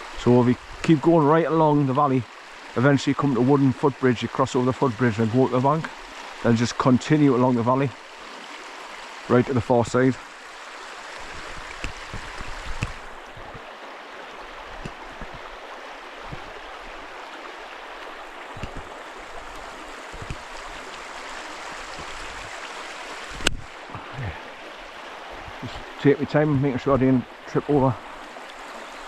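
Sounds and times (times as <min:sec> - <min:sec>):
stream rushing: 0:00.0 - 0:29.0.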